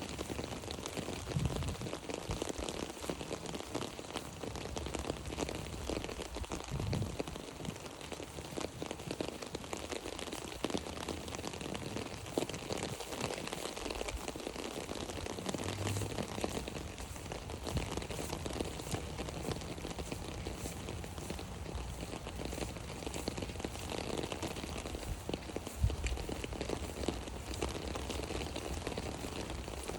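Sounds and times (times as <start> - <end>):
rain on an umbrella: 0.0 - 29.9.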